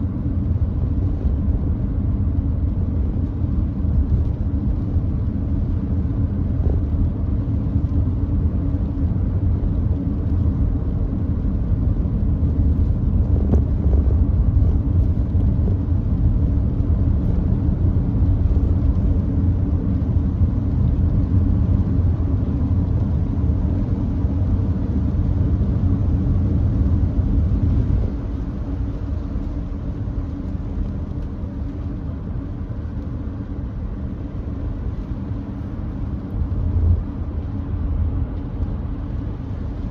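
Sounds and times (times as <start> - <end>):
road and tyre noise on wet road: 0.0 - 39.9.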